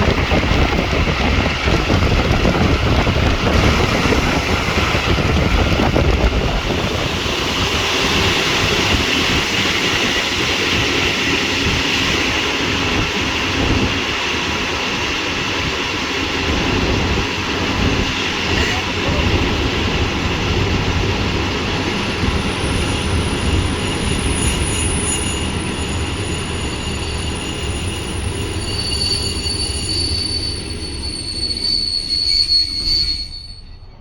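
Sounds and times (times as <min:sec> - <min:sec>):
train running rumble: 0:00.0 - 0:34.0.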